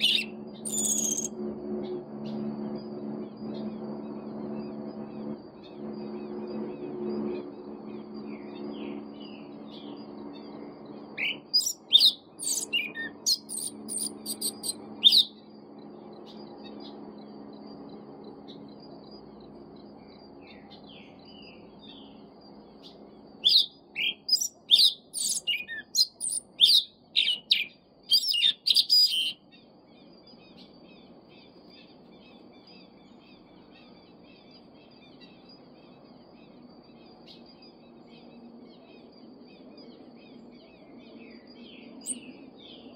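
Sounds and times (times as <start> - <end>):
faint high chirping: 0.0 - 42.9
low hum: 0.0 - 42.9.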